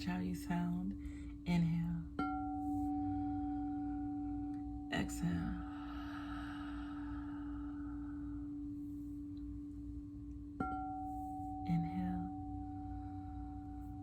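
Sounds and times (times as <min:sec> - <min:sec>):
bowl struck: 0:00.0 - 0:14.0
singing bowl ringing: 0:01.9 - 0:14.0.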